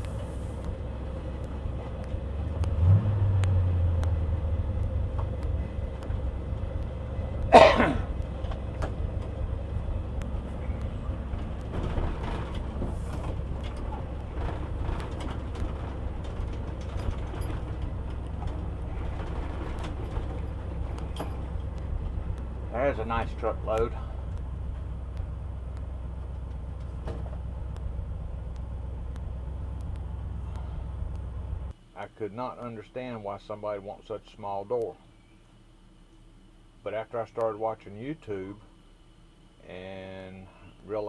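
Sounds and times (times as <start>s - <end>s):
truck engine rumbling: 0.0s - 41.0s.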